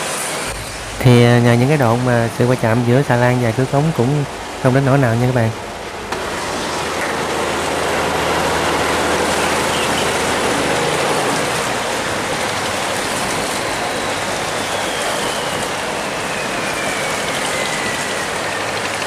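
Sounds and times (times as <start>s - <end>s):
water rushing through sluice gate: 0.0s - 19.0s
boat engine running low: 0.5s - 19.0s.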